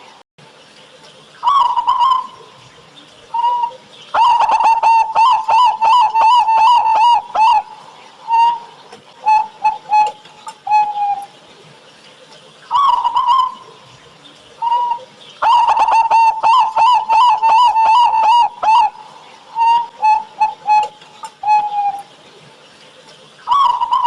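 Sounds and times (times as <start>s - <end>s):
dove cooing: 1.4s - 24.0s.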